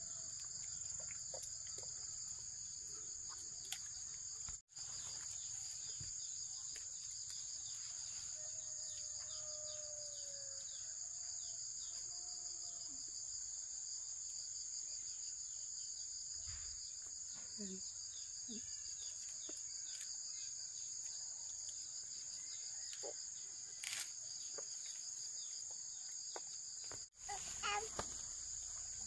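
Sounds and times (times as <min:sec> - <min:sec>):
insect chorus trilling: 0:00.0 - 0:29.0.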